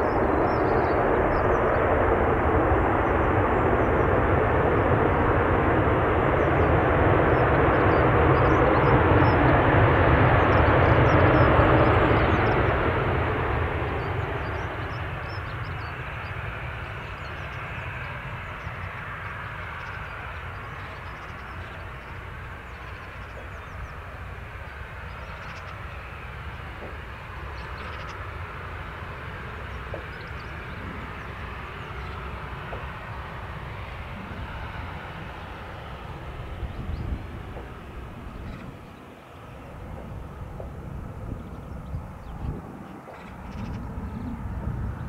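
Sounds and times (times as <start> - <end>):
jet engines rumbling: 0.0 - 45.0.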